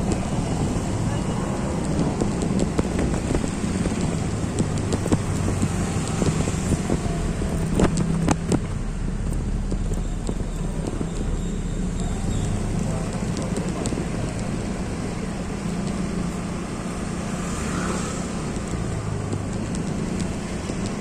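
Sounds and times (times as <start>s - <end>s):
vehicle engines humming: 0.0s - 21.0s
sharp clicks: 1.7s - 21.0s.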